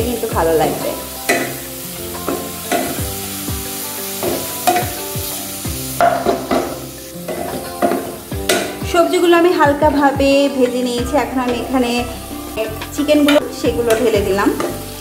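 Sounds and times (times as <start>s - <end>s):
soft background music: 0.0s - 15.0s
vegetables sizzling in hot oil: 0.0s - 15.0s.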